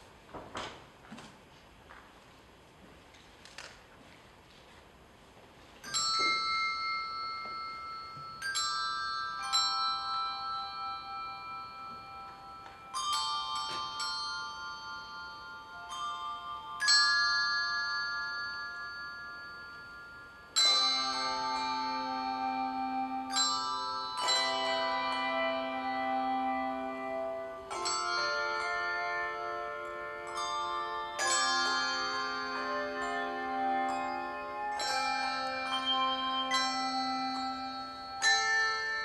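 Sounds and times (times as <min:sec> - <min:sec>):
handbell choir ringing chords: 0:05.8 - 0:39.0.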